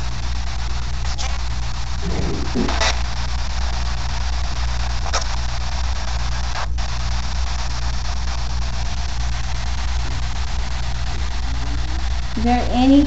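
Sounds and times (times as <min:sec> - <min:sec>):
low constant hum: 0:00.0 - 0:13.0
steady hiss: 0:00.0 - 0:13.0.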